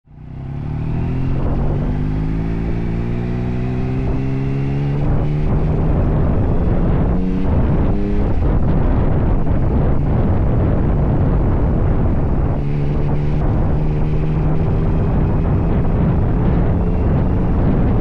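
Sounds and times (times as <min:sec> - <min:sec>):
wind buffeting microphone: 0:00.4 - 0:18.0.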